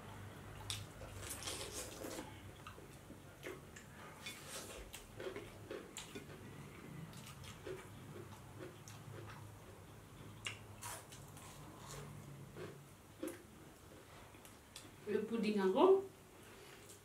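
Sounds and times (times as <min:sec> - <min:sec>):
chewing: 0:00.6 - 0:14.9.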